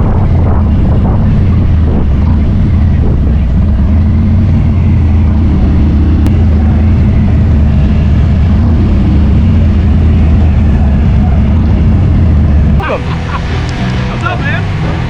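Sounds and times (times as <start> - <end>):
motorcycle engine running loudly: 0.0 - 15.0.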